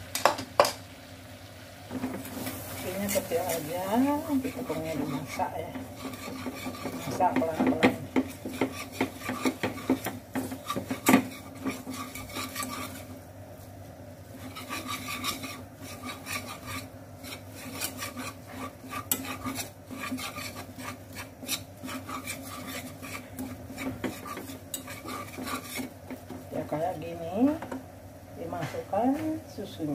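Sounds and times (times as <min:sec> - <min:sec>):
whisk scraping metal pan: 0:01.9 - 0:13.2, 0:14.3 - 0:27.0.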